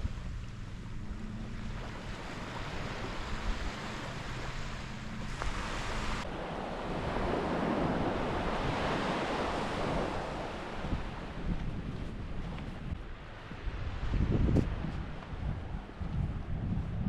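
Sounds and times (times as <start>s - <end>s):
wind on microphone: 0.0s - 17.0s
ocean surf washing on sand: 1.0s - 15.9s.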